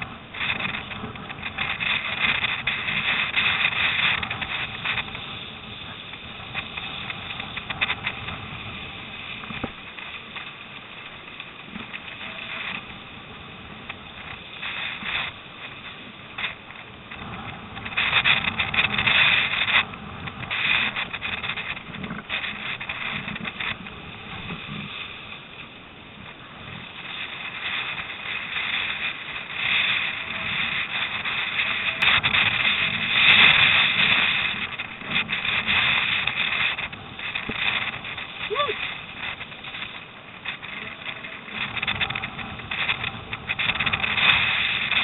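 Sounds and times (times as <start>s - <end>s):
water splashing along hull: 0.0s - 45.0s
wind buffeting microphone: 0.0s - 45.0s.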